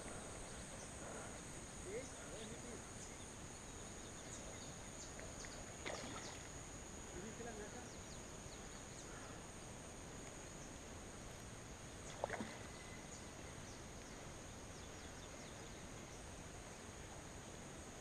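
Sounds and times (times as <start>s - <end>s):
steady high-pitched hum: 0.0s - 18.0s.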